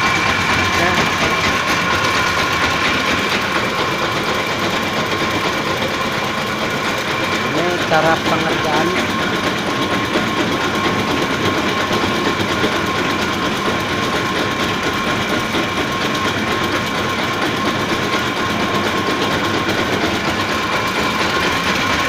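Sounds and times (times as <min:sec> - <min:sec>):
motor high whine: 0:00.0 - 0:22.0.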